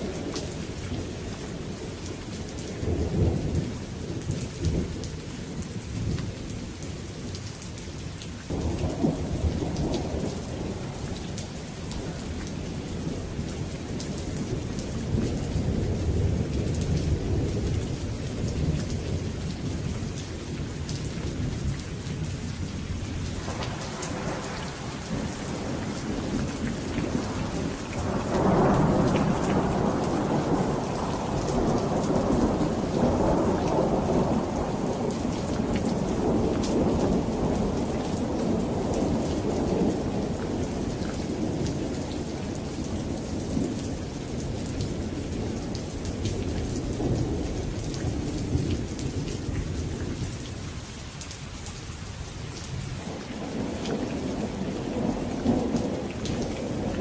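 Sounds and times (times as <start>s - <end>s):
low rolling thunder: 0.0s - 6.6s, 8.5s - 50.7s, 52.7s - 57.0s
rain pattering: 0.0s - 57.0s.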